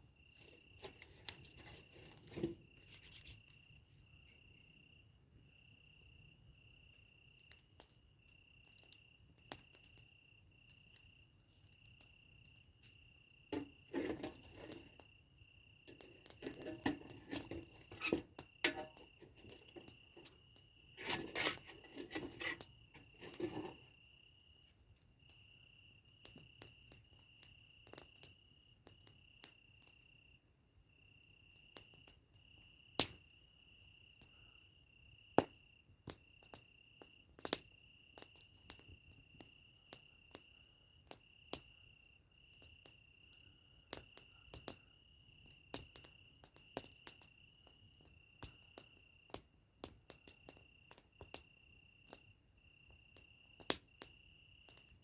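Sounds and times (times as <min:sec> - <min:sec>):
cricket trilling: 0:00.0 - 0:55.0
campfire crackling and popping: 0:00.1 - 0:55.0.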